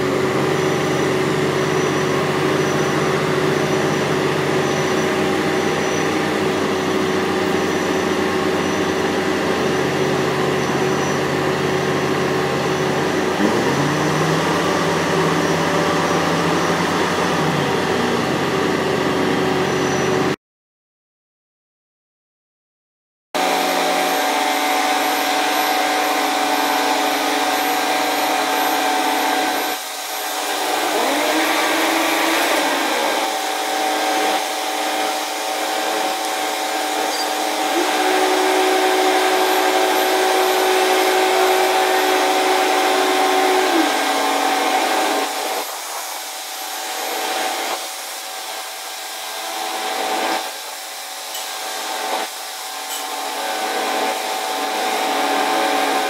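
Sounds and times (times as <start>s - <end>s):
construction machinery whirring: 0.0s - 20.4s, 23.4s - 56.0s.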